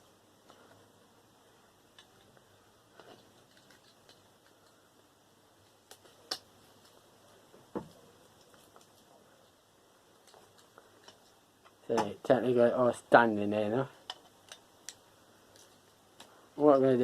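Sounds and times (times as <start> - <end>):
faint clicks and knocks of parts: 0.3 - 12.5, 13.6 - 17.0.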